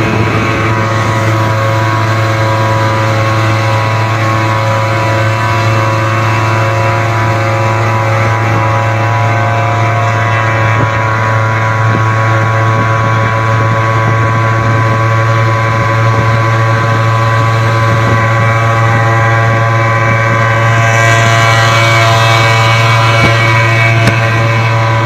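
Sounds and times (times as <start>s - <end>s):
road and wind noise: 0.0s - 25.0s
two-stroke engine buzzing: 0.0s - 25.0s.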